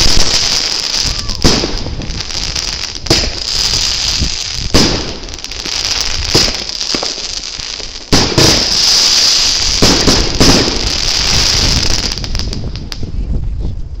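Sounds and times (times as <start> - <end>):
firework bang: 0.0 - 2.5, 3.1 - 7.2, 8.1 - 13.0
firework bursts and crackling: 0.0 - 13.2.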